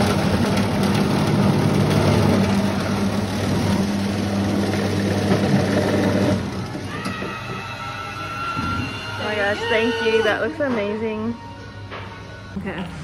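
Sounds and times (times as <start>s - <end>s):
ice cream machine motor humming: 0.0s - 11.0s.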